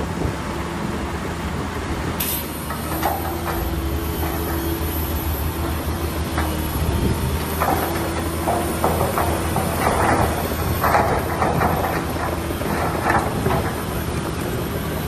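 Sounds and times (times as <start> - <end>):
diesel earthmoving machinery running: 0.0 - 15.0
rock clanking and scraping: 2.4 - 15.0.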